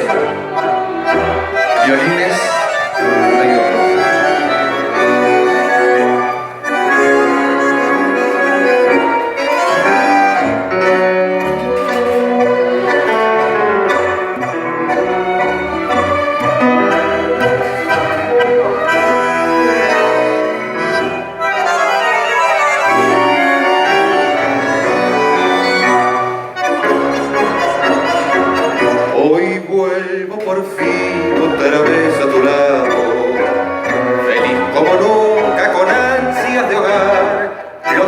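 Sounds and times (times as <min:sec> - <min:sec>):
tango orchestra instrumental: 0:00.0 - 0:38.0.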